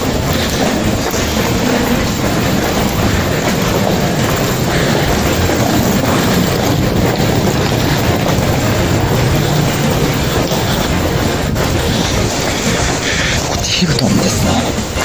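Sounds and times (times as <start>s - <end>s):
subway station rumble and hiss: 0.0s - 15.0s.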